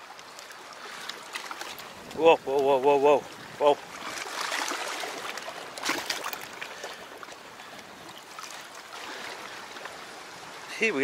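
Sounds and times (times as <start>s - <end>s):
small waves lapping against rocks: 0.0s - 11.0s.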